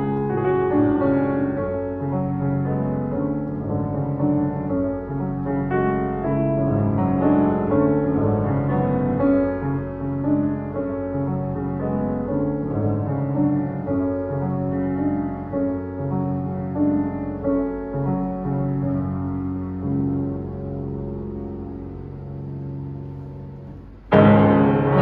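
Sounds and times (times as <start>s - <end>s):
solo grand piano playing: 0.0s - 25.0s.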